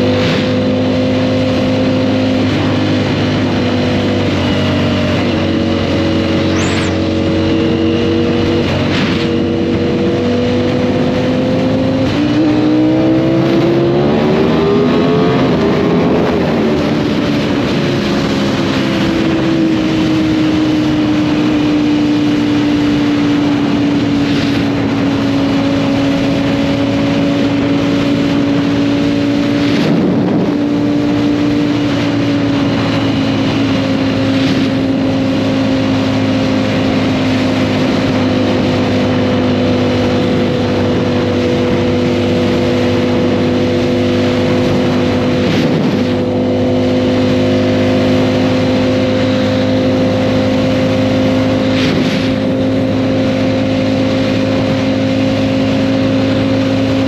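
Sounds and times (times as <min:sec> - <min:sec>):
motorcycle engine cruising: 0:00.0 - 0:57.0
rushing road and wind noise: 0:00.0 - 0:57.0.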